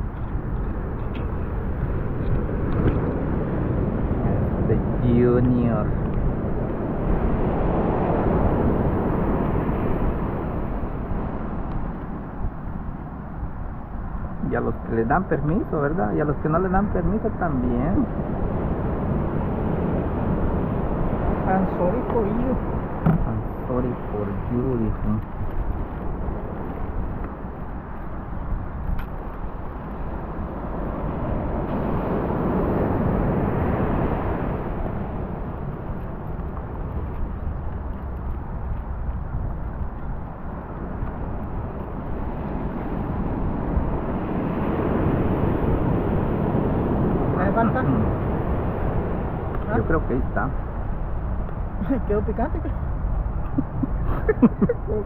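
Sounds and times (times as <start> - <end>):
ocean surf breaking: 0.0 - 55.0
rushing beach noise: 0.0 - 55.0.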